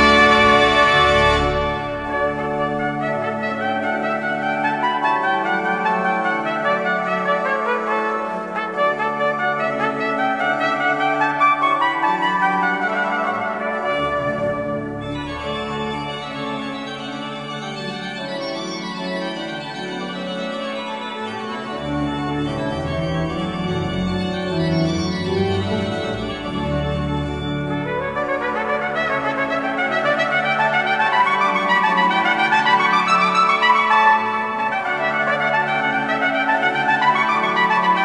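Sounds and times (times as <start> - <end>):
organ music: 0.0 - 38.0.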